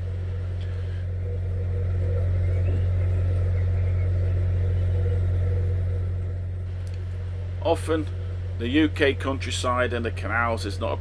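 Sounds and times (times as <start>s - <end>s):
boat engine humming: 0.0s - 11.0s
faint birdsong: 0.0s - 11.0s.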